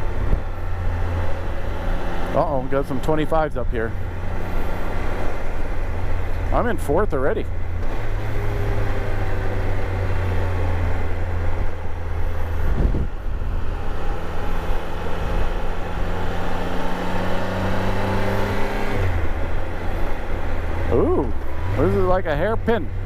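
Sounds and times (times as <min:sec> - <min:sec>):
motorcycle engine droning: 0:00.0 - 0:23.0.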